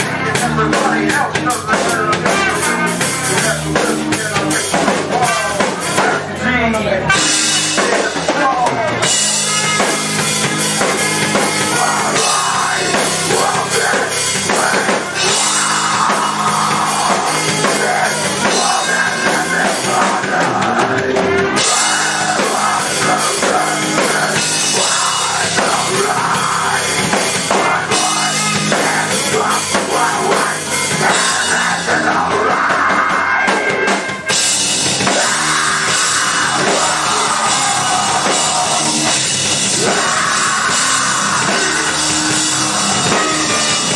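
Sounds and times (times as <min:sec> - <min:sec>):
distorted guitar: 0:00.0 - 0:43.9
electric bass: 0:00.0 - 0:43.9
pounding drum kit: 0:00.0 - 0:43.9
rock band playing: 0:00.0 - 0:43.9.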